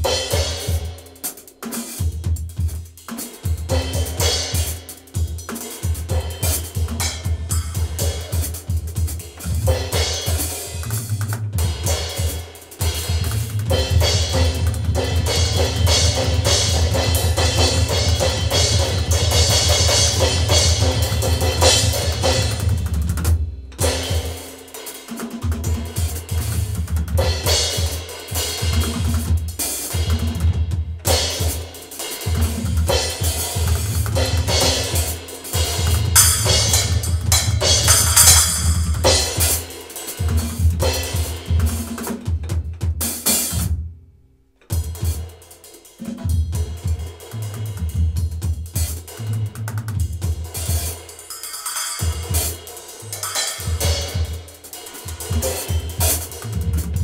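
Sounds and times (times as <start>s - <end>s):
backing track with bass line: 0.0s - 50.9s, 51.6s - 57.0s
drum kit playing a groove: 0.0s - 57.0s.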